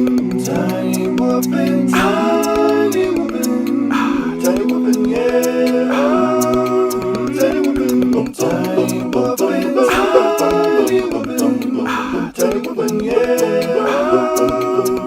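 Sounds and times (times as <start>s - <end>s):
a cappella voices singing: 0.0s - 15.0s.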